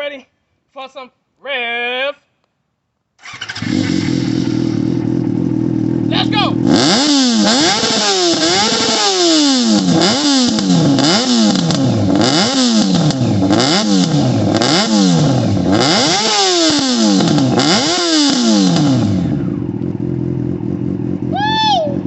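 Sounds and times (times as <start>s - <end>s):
motorcycle engine revving: 3.2s - 22.0s.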